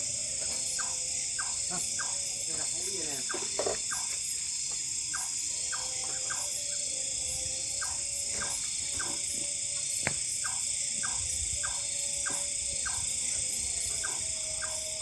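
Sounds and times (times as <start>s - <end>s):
high insect buzzing drone: 0.0s - 15.0s
short insect calls: 0.0s - 15.0s.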